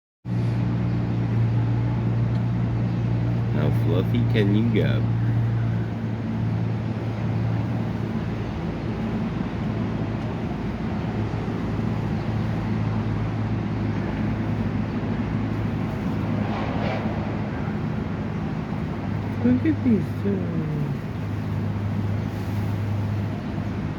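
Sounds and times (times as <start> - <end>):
low mechanical hum: 0.3 - 23.9.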